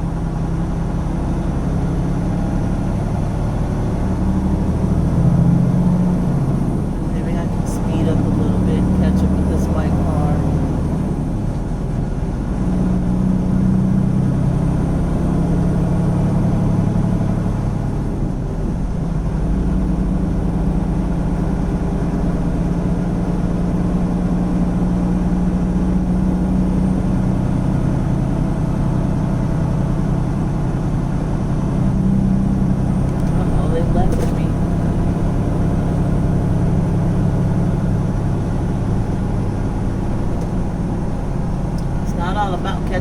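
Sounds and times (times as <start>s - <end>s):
road noise: 0.0s - 43.0s
truck diesel engine running: 0.0s - 43.0s.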